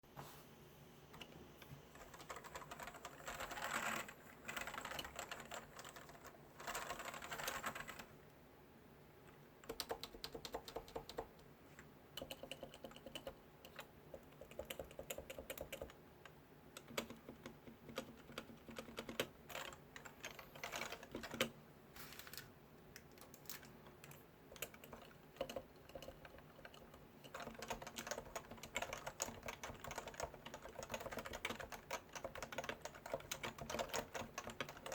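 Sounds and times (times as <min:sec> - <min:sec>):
keyboard typing: 0:01.1 - 0:08.2, 0:09.6 - 0:11.4, 0:12.2 - 0:16.0, 0:16.8 - 0:21.6, 0:23.0 - 0:34.9.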